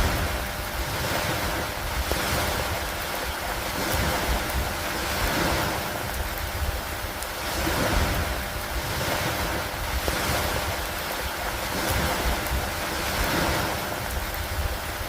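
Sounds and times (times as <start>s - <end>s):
rain over lake water: 0.0s - 15.0s
wind: 0.0s - 15.0s.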